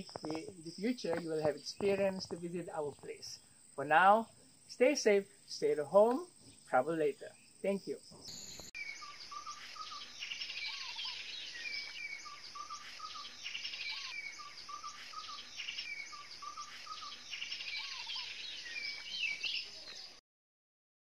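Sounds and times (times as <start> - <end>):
birds chirping and warbling: 0.0 - 20.2
insect buzz: 0.0 - 20.2.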